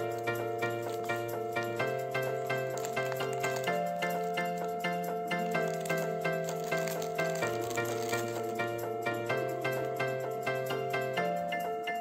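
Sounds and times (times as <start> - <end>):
soft background music with chords: 0.0 - 12.0.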